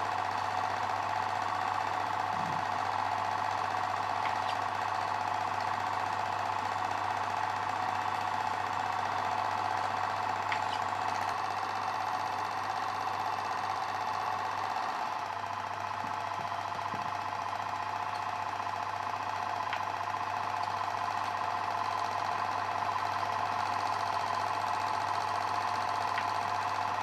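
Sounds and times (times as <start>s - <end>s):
film projector clattering: 0.0s - 27.0s.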